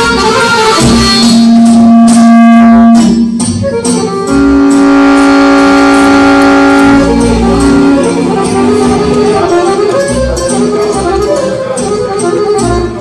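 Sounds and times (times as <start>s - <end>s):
button accordion playing: 0.0s - 13.0s.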